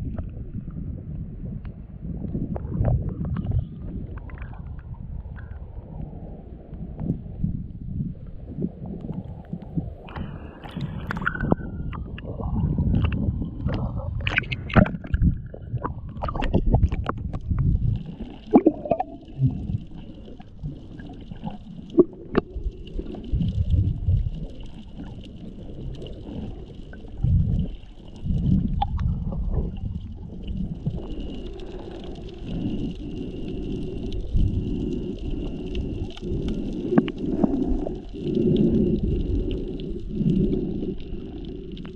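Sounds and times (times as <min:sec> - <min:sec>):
muffled water sloshing and gurgling: 0:00.0 - 0:41.9.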